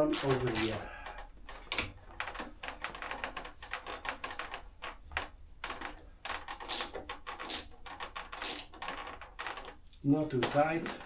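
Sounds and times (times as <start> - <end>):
hand ratchet clicking: 0.0 - 9.8.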